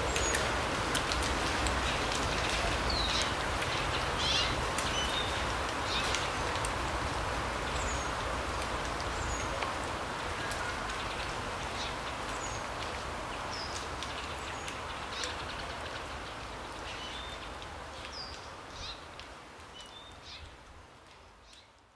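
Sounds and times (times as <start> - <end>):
wind rustling trees: 0.0 - 21.9.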